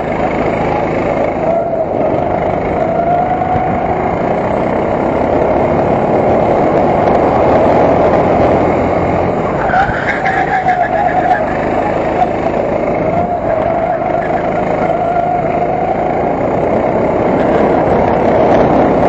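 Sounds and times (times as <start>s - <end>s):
kart engine running hard: 0.0s - 19.0s.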